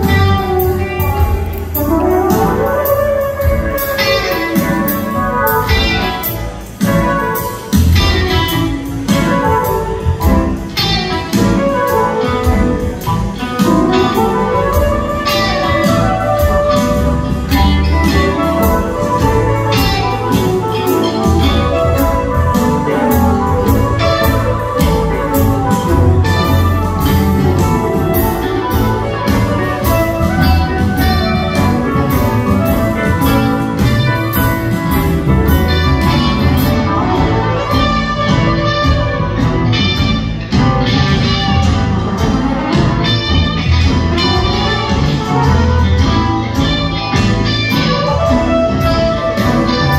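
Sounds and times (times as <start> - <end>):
live band playing a groove: 0.0 - 49.9
piano: 0.0 - 49.9
upright bass: 0.0 - 49.9.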